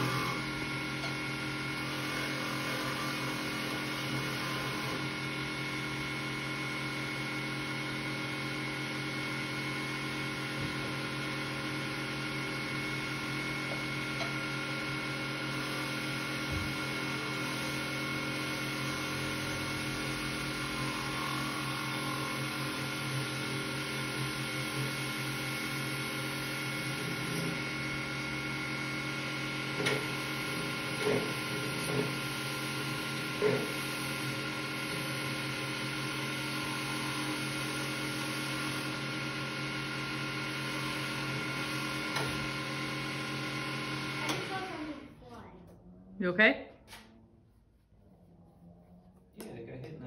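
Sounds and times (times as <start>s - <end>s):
turning tool cutting wood: 0.0s - 44.9s
wood lathe humming: 0.0s - 45.0s.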